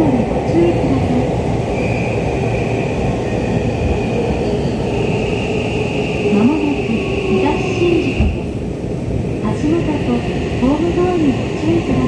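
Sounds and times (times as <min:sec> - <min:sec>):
rumble of train wheels on rail: 0:00.0 - 0:12.0.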